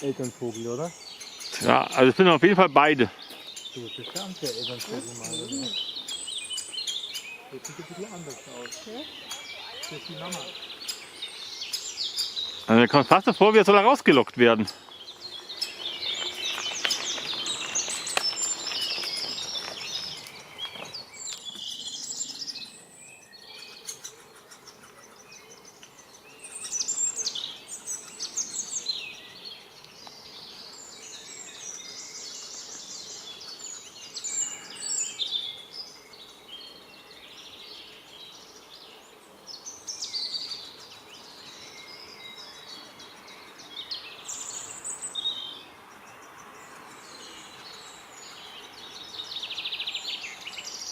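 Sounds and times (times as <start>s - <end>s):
outdoor background hiss: 0.0s - 50.9s
woodpeckers chattering: 0.0s - 50.9s.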